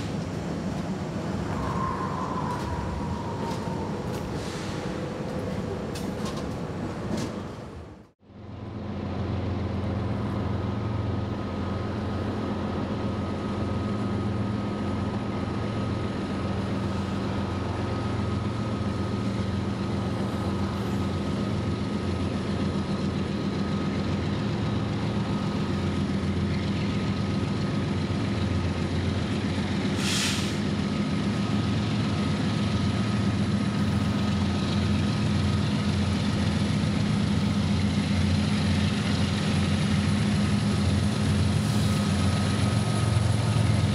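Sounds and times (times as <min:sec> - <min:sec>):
diesel locomotive engines running: 0:00.0 - 0:43.9.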